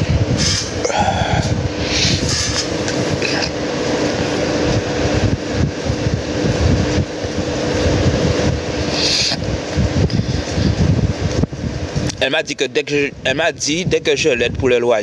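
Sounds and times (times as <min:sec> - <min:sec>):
faint steady hum: 0:00.0 - 0:15.0
gusty low rumble: 0:00.0 - 0:15.0
steady rushing noise: 0:00.0 - 0:15.0.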